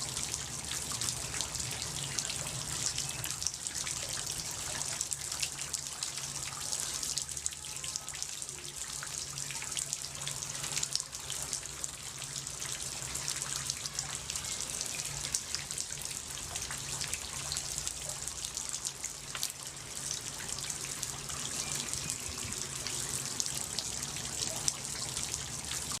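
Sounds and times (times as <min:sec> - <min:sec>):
patter of fine drips: 0:00.0 - 0:26.0
water running and splashing: 0:00.0 - 0:26.0.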